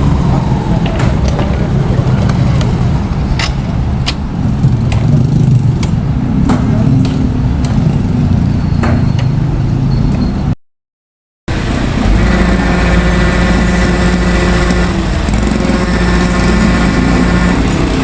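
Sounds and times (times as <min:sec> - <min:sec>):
heavy vehicle engine running: 0:00.0 - 0:10.4, 0:11.5 - 0:18.0.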